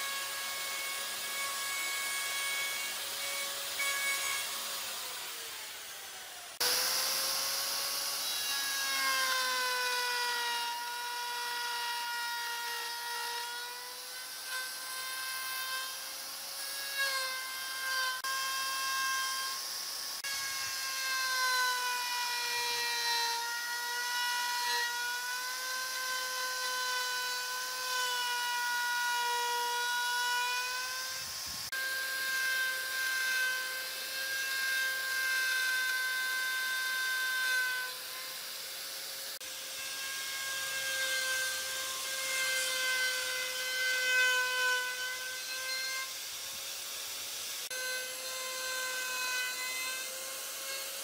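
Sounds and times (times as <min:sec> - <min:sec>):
power tool motor whine on wood: 0:00.0 - 0:51.0.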